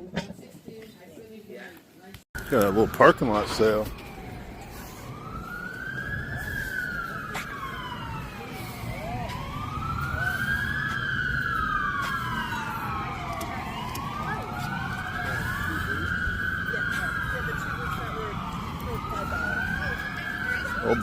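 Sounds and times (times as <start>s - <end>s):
emergency sirens wailing: 2.4s - 21.0s.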